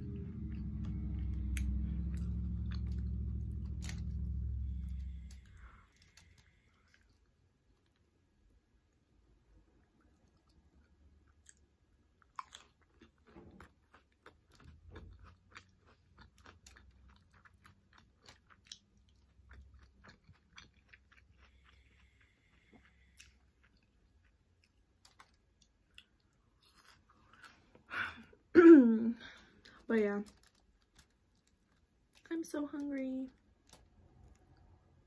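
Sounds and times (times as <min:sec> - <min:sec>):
crunchy chewing of chips: 0:00.0 - 0:08.1, 0:09.8 - 0:27.9, 0:29.4 - 0:35.0.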